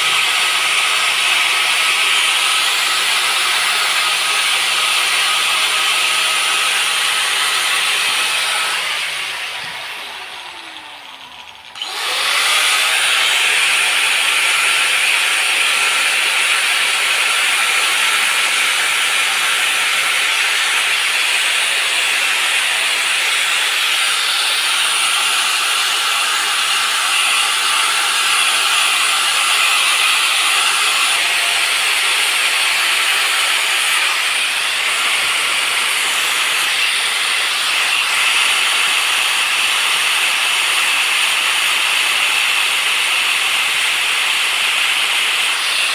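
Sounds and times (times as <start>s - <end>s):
power tool grinding: 0.0s - 45.9s.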